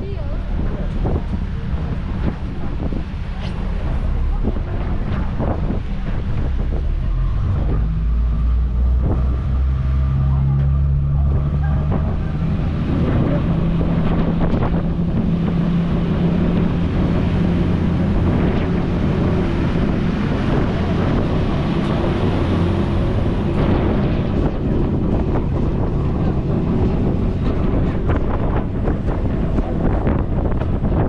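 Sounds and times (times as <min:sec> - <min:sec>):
boat engines humming: 0:00.0 - 0:31.0
rush of churning wake: 0:00.0 - 0:31.0
wind buffeting microphone: 0:00.0 - 0:31.0.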